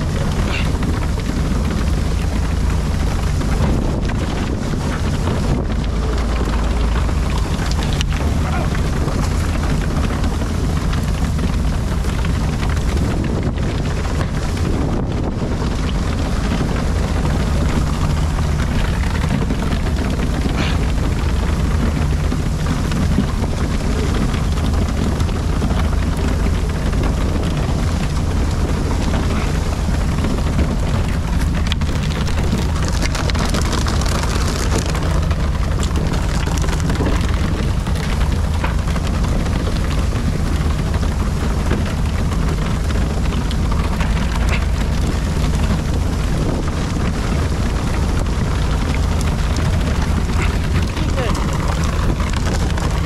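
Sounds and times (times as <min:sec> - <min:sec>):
boat engine running: 0:00.0 - 0:53.0
water splashing against hull: 0:00.0 - 0:53.0.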